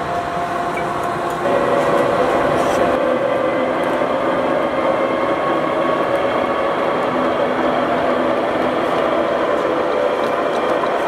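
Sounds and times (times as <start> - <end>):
lathe whirring and whining: 0.0 - 11.0.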